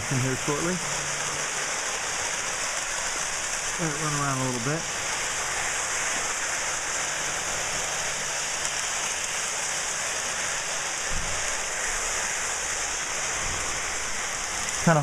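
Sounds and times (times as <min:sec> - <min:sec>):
toy trains whirring on track: 0:00.0 - 0:15.0.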